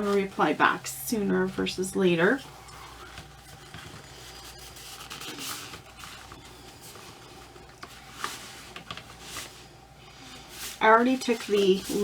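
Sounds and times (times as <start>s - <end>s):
cloth rustling: 0.0s - 12.0s.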